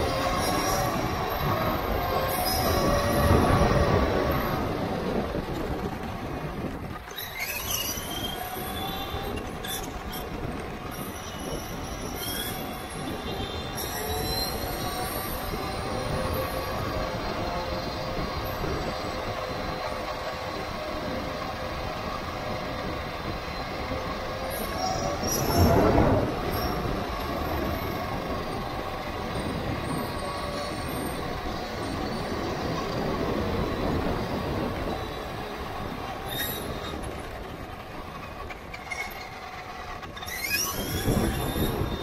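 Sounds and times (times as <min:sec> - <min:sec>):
toy truck tyres rumbling: 0:00.0 - 0:42.0.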